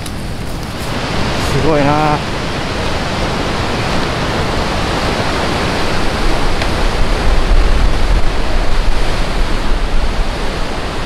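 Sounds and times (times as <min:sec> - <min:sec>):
wind buffeting microphone: 0:00.0 - 0:11.0
sea breaking against rocks: 0:01.0 - 0:11.0.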